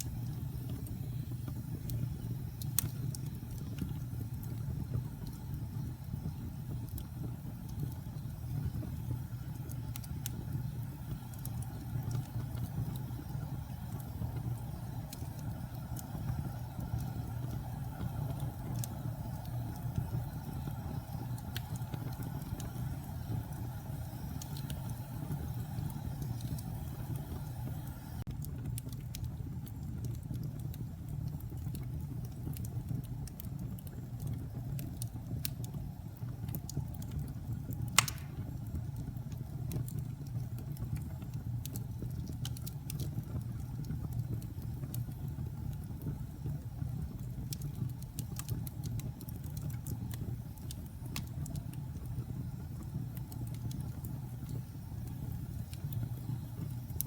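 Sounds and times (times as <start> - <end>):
fire burning in fireplace: 0.0 - 57.0
fire crackling and popping: 0.0 - 57.0.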